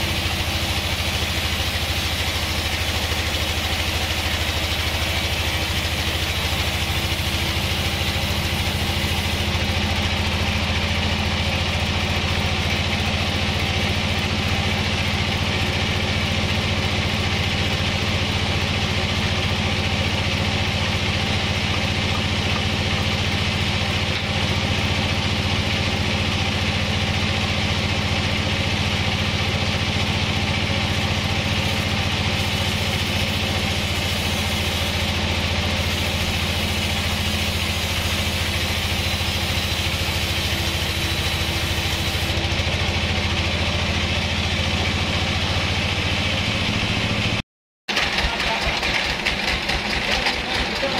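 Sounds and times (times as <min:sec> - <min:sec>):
bandsaw mill running: 0:00.0 - 0:50.9.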